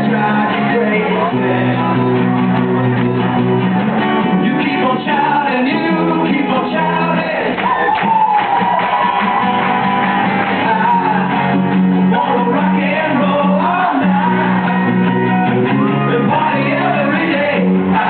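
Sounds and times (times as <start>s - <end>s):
person singing: 0.0s - 3.2s, 4.3s - 8.0s, 10.2s - 18.0s
strummed guitars: 0.0s - 18.0s.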